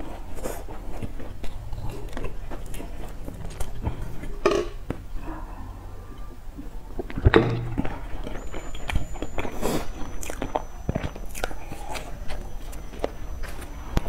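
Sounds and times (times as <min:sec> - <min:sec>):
chewing crunchy pastry: 0:00.0 - 0:04.4, 0:05.1 - 0:14.0.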